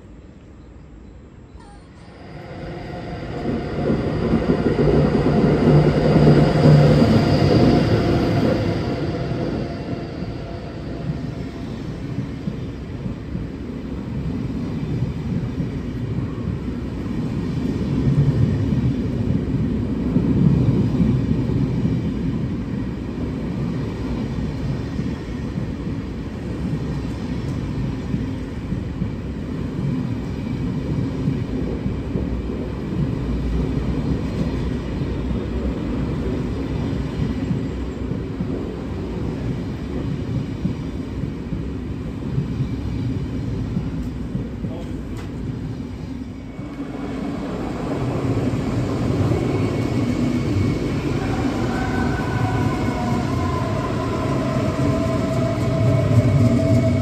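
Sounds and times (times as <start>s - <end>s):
electric locomotive passing: 0.0s - 57.0s
train wheels rumbling on rails: 1.6s - 57.0s.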